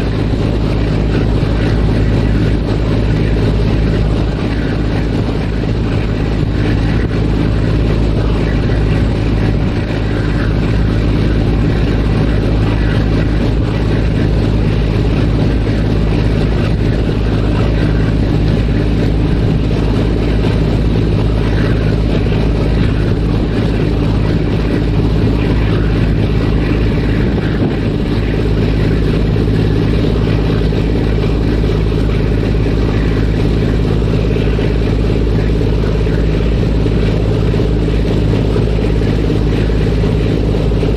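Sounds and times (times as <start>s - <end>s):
ferry engines humming: 0.0s - 40.9s.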